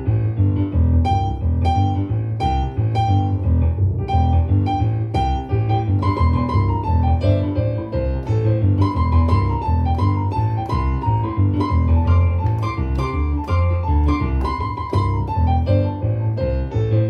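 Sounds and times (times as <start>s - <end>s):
digital piano chords and bass: 0.0s - 17.0s.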